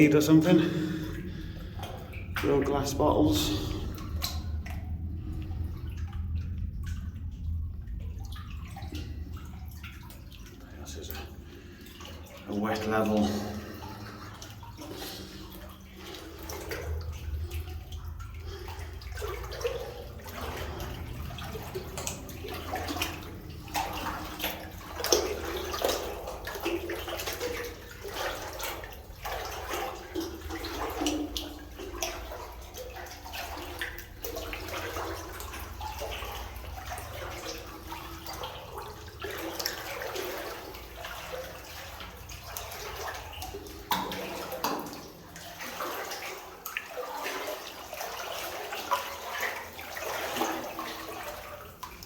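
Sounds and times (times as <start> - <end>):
person wading through water: 0.0 - 52.0.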